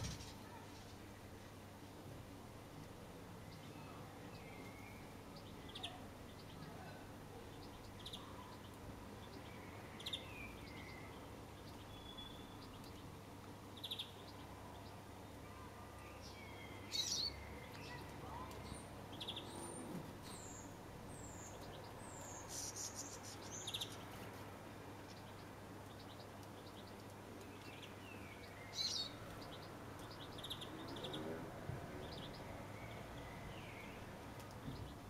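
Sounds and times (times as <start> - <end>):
songbirds chirping: 0.0 - 35.0.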